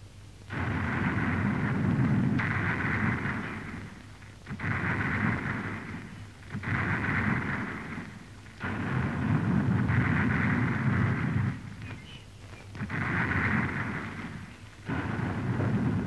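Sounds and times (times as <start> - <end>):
cannon booms rumbling: 0.0 - 16.0.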